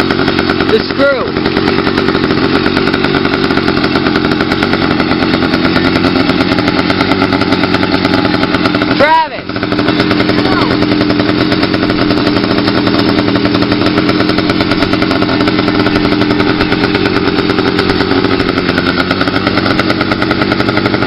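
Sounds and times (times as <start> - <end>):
unmuffled two-stroke engine running: 0.0 - 21.0.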